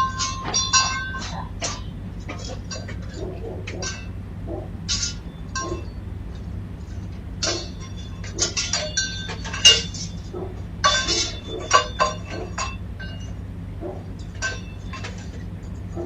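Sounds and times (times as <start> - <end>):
clinks and knocks: 0.0 - 16.0
low hum: 0.0 - 16.0.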